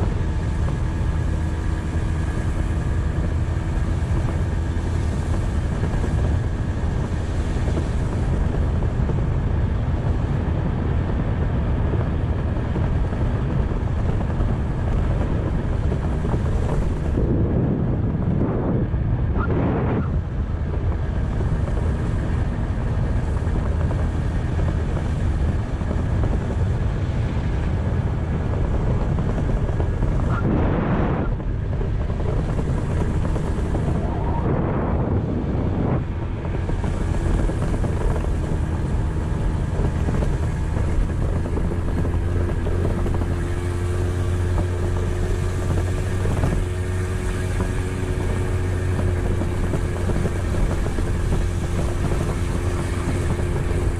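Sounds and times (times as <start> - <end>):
scooter engine drone: 0.0 - 53.9
wind rushing over microphone: 0.0 - 53.9.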